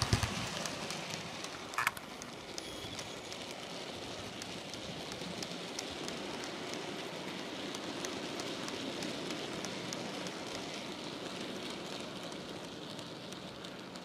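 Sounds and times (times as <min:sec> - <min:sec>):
model train wheels rushing on track: 0:00.0 - 0:14.0.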